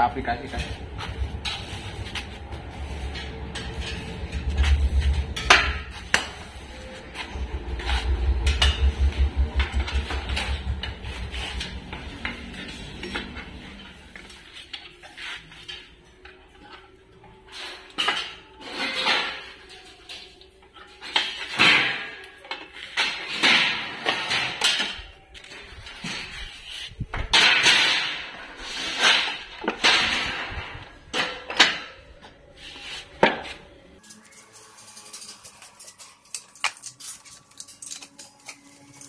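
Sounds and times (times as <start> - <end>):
metal parts clanking and scraping: 0.0 - 39.0.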